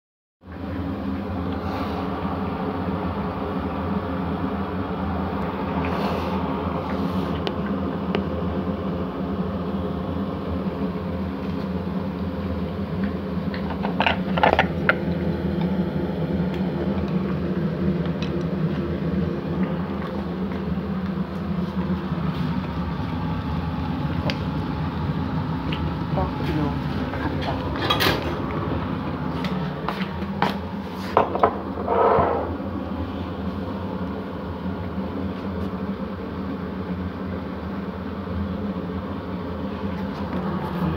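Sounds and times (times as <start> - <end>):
fan motor humming: 0.4 - 40.9.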